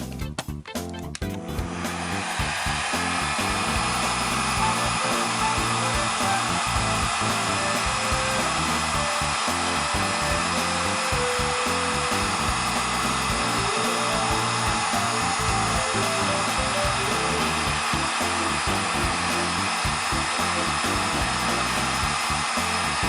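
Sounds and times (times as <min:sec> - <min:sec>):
background music: 0:00.0 - 0:23.0
steady rushing noise: 0:01.7 - 0:23.0.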